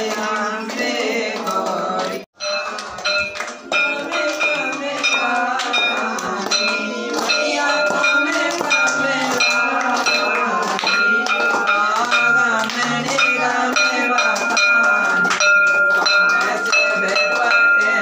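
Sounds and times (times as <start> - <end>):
group of voices singing: 0.0 - 18.0
hands clapping: 0.0 - 18.0
brass bell ringing: 2.4 - 18.0.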